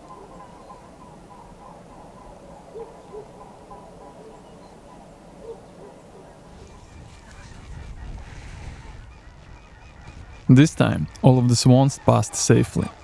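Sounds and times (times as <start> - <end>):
waterfowl honking: 0.0 - 13.0.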